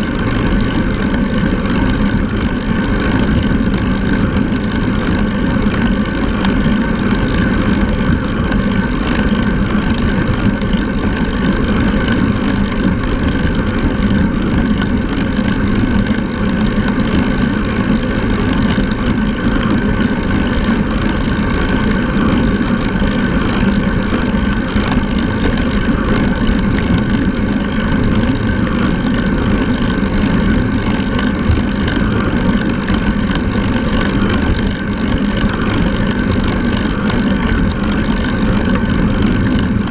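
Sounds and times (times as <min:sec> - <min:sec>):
bike tyres rolling on asphalt: 0:00.0 - 0:39.9
wind buffeting microphone: 0:00.0 - 0:39.9.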